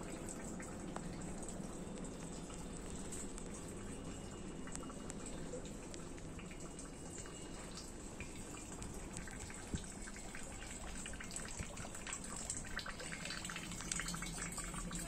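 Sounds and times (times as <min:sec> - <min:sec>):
light rain dripping: 0:00.0 - 0:15.0.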